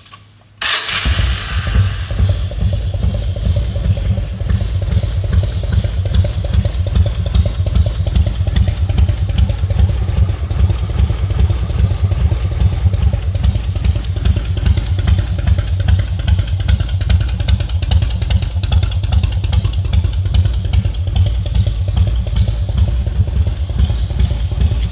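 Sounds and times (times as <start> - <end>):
motorcycle engine idling: 0.6 - 24.9.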